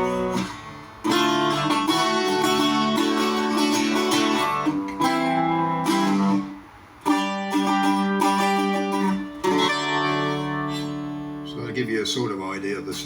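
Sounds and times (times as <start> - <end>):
bouzouki picked and strummed: 0.0 - 13.0.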